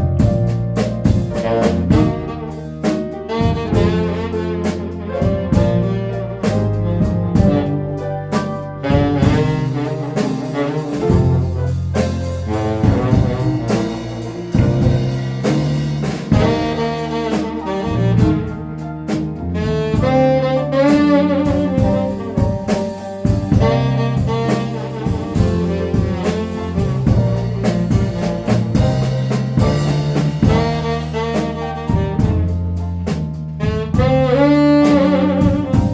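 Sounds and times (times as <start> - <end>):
band playing: 0.0 - 35.9
saxophone melody: 0.0 - 35.9.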